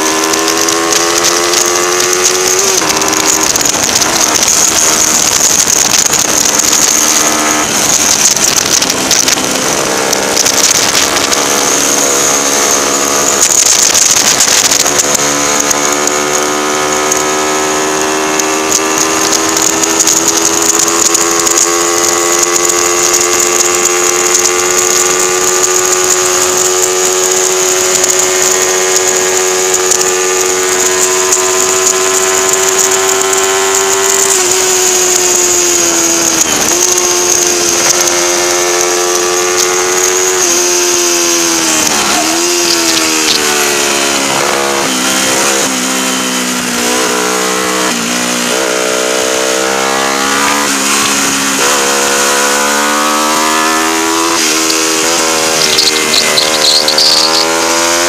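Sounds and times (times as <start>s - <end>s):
motorcycle engine on track: 0.0s - 58.0s.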